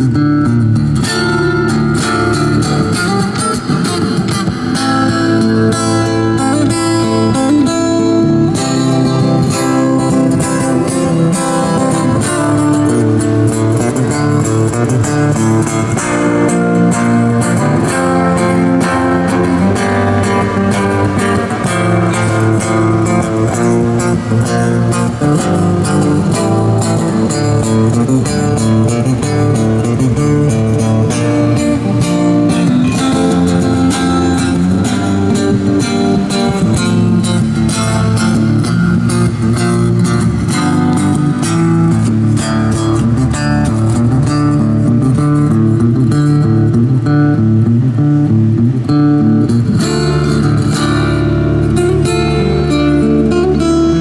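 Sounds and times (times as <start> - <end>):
fingerstyle guitar melody: 0.0 - 54.0.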